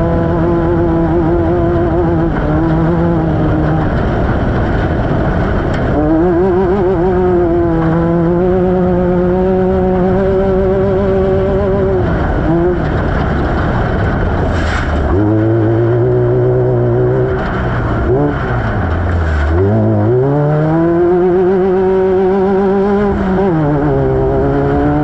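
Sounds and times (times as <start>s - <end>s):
race vehicle engine at high revs: 0.0s - 25.0s.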